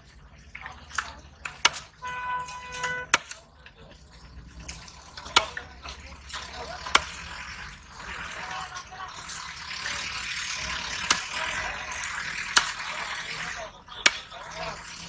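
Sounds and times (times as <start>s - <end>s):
background noise: 0.0s - 15.0s
distant voices: 0.0s - 15.0s.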